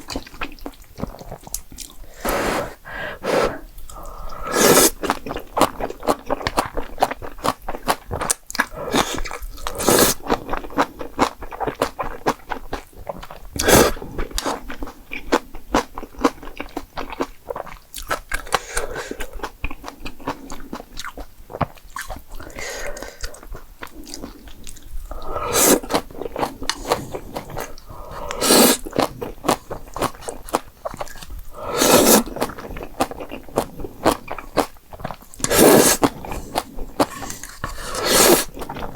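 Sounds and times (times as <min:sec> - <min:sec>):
bites and slurps: 0:00.0 - 0:38.9
wet chewing: 0:00.0 - 0:38.9.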